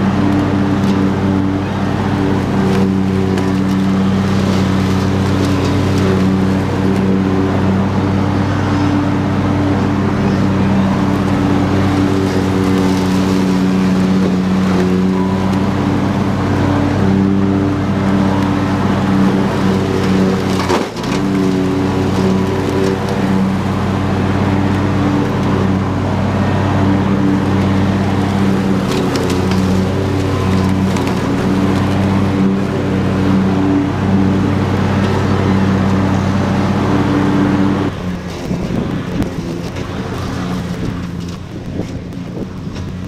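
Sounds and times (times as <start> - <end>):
lawn tractor engine mowing: 0.0 - 43.0.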